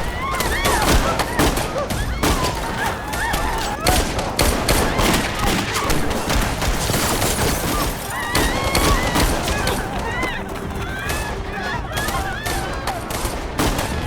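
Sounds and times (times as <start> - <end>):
gunfire bursts: 0.0 - 14.0
people screaming: 0.0 - 14.0.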